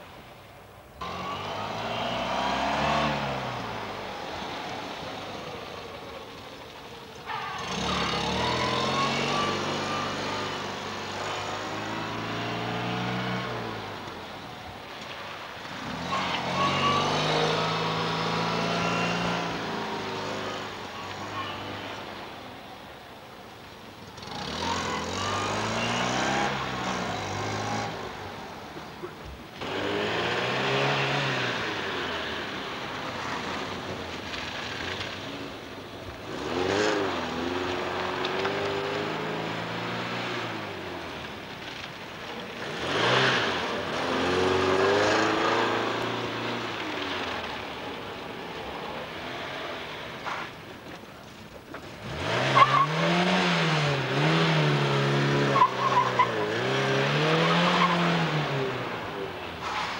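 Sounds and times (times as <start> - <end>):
rally car engines revving: 1.0 - 22.4, 24.0 - 59.9.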